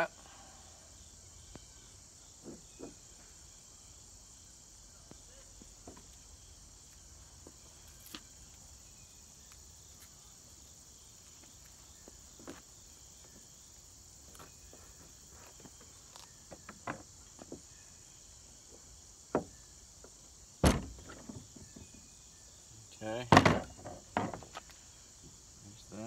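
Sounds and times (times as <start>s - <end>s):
high insect chorus: 0.0s - 26.0s.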